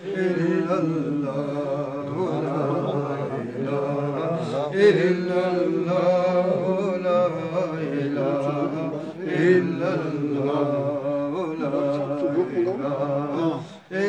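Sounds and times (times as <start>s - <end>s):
men chanting religious recitation: 0.0s - 14.0s.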